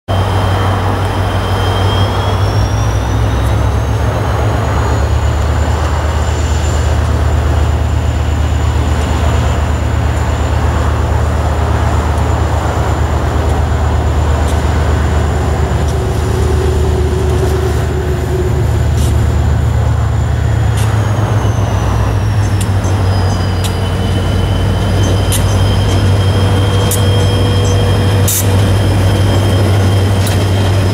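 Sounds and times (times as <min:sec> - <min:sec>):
high whine: 0:00.1 - 0:30.9
train rumble and hum: 0:00.1 - 0:30.9.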